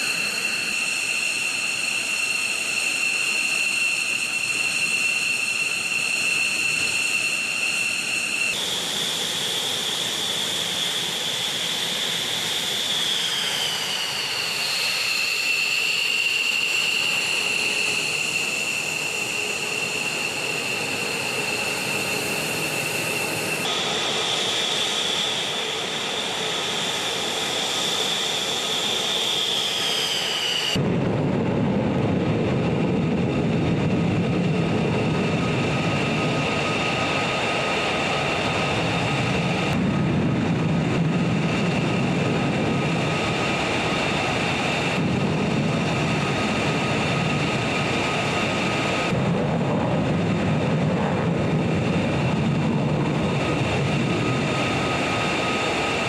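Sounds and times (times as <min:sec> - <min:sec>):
fighter jet roaring on takeoff: 0:00.0 - 0:56.0
jet engines whining: 0:00.0 - 0:56.0.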